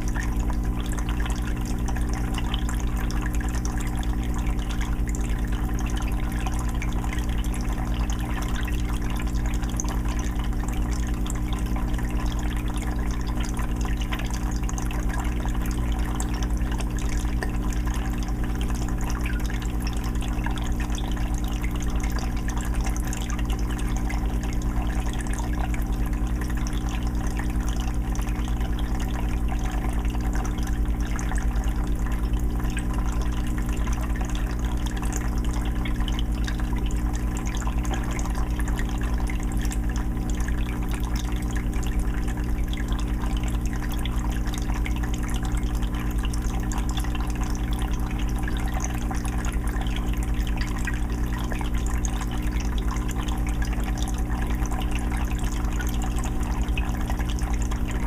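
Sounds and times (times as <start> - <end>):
low motor hum: 0.0 - 58.0
water trickling and splashing: 0.0 - 58.0.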